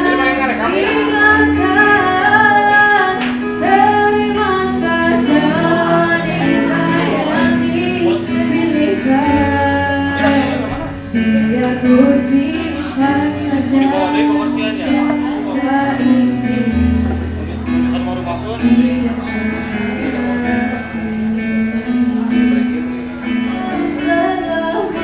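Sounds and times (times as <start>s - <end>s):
woman singing into a microphone: 0.0s - 17.8s, 18.6s - 25.0s
live band playing: 0.0s - 25.0s.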